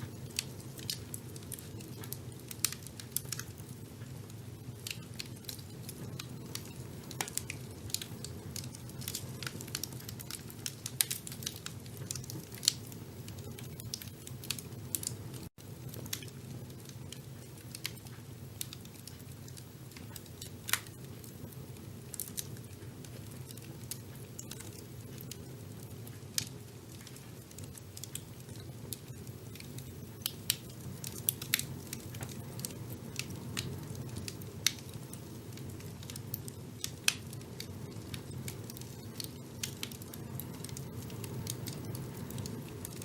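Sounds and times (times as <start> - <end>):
fire crackling and popping: 0.0 - 43.0
low rumble of flames: 0.0 - 43.0.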